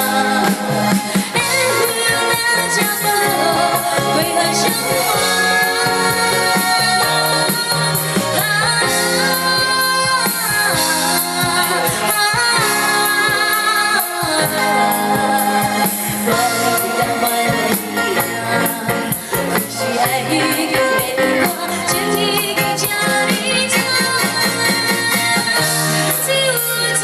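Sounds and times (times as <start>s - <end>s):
band playing: 0.0s - 27.0s
woman singing pop song: 0.0s - 27.0s.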